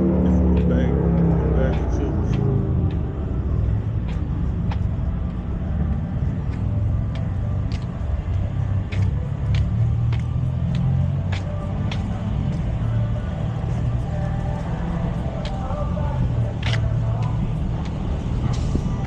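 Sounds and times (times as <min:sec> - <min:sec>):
vehicles idling: 0:00.0 - 0:19.0.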